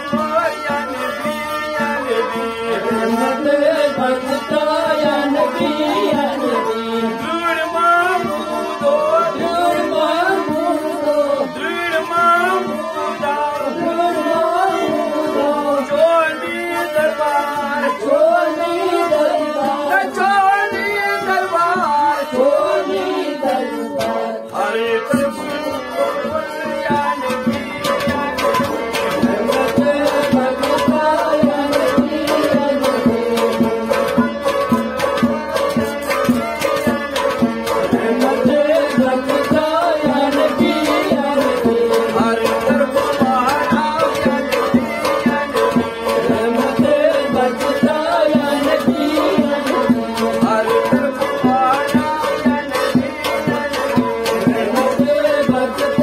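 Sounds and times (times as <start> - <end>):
bowed sarangi melody: 0.0 - 56.0
harmonium: 0.0 - 56.0.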